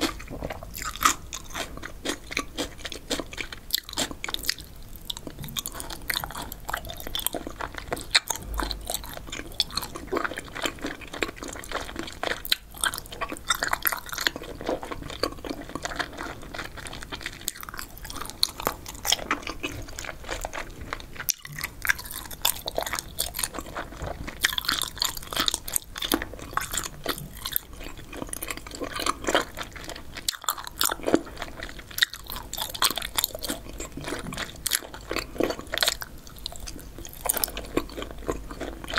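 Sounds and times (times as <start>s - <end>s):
person chewing wet crackles: 0.0s - 38.9s.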